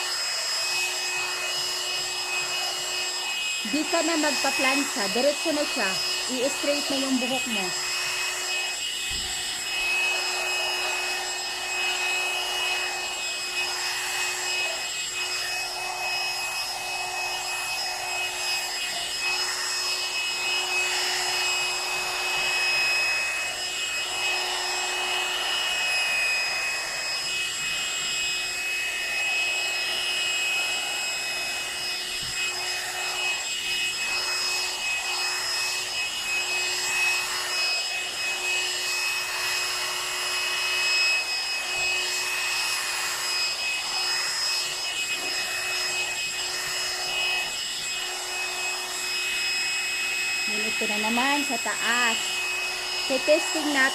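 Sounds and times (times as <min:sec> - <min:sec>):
hair dryer blowing air: 0:00.0 - 0:53.9.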